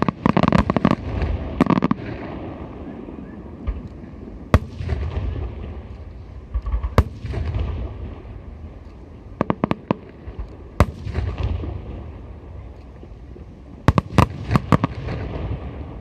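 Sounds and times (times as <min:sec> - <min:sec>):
fireworks bursting: 0:00.0 - 0:16.0
fireworks cracking: 0:00.0 - 0:16.0
low rumbling booms: 0:00.6 - 0:16.0.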